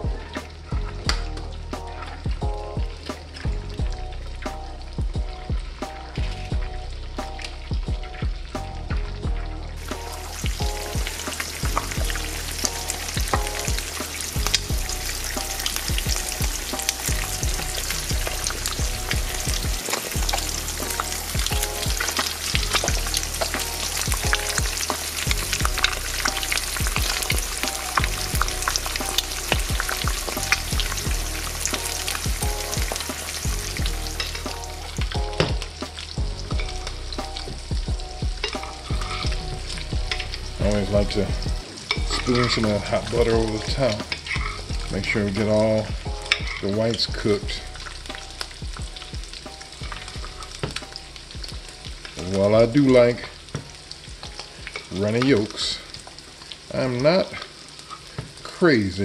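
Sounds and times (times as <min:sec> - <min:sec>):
eggs sizzling in butter: 0:00.0 - 0:59.0
sharp crackling pops: 0:09.8 - 0:58.4.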